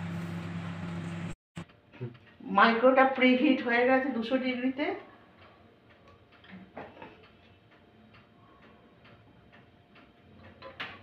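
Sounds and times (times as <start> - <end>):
oven humming: 0.0 - 11.0.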